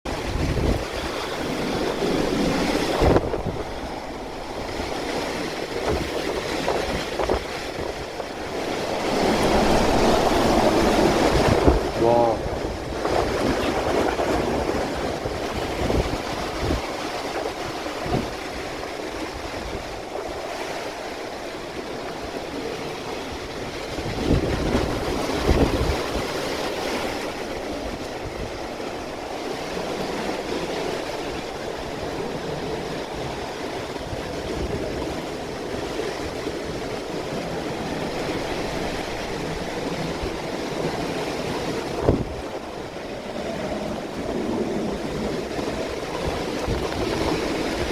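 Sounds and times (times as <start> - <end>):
typhoon wind and rain rushing: 0.1 - 47.9
wind gusts buffeting microphone: 0.1 - 47.9.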